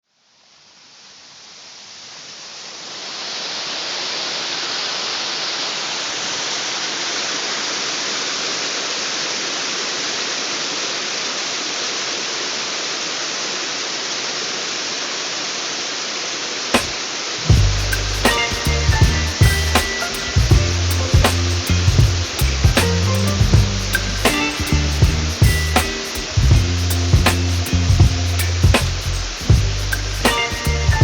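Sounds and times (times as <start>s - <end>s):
rushing water: 2.9s - 31.0s.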